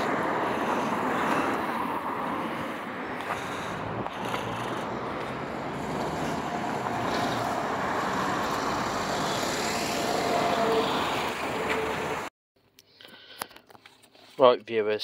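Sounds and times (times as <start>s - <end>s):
street traffic: 0.0s - 14.5s.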